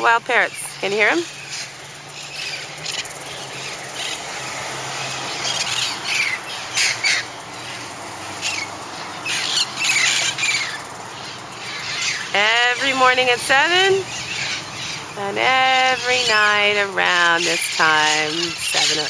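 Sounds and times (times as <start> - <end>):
parrots squawking: 0.0 - 19.0.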